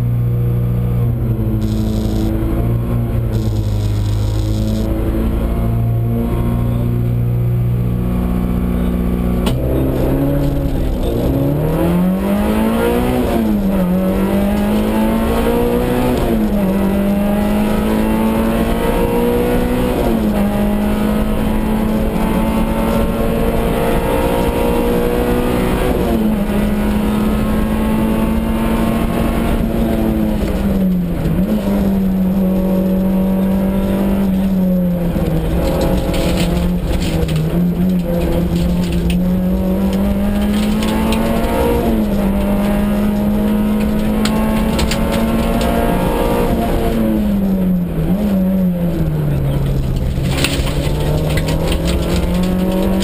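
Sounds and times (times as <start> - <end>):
rally car engine accelerating: 0.0 - 53.0.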